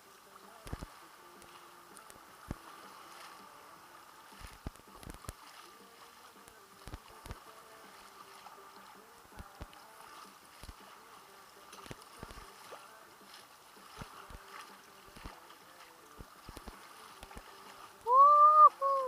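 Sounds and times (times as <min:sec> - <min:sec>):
paddle splashing in water: 0:00.0 - 0:19.0
soft wash of water: 0:00.0 - 0:19.0.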